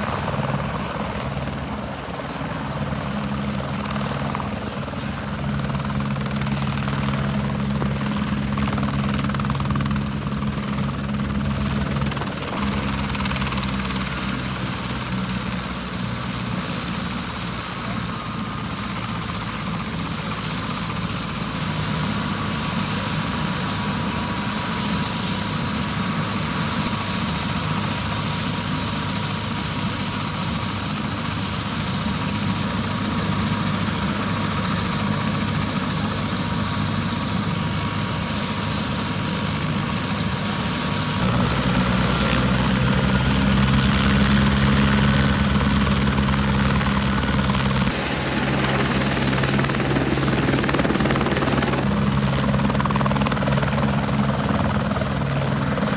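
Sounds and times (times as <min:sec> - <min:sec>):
helicopter rotor beat: 0:00.0 - 0:55.9
helicopter turbine whine: 0:00.0 - 0:55.9.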